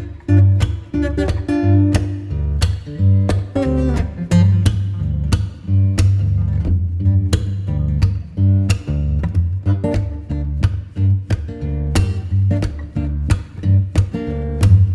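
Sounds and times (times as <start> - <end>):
steady bass line: 0.0 - 14.9
strummed guitar: 0.0 - 14.9.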